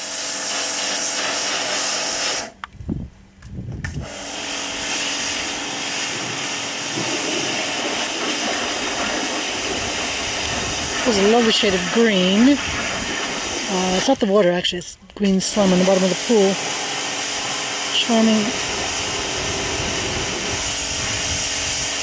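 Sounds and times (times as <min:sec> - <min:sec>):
pressure washer water jet hissing: 0:00.0 - 0:02.6, 0:04.0 - 0:22.0.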